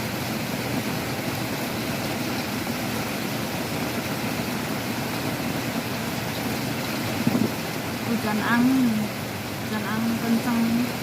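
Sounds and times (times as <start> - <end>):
heavy rain: 0.0 - 11.0
strong wind: 0.0 - 11.0.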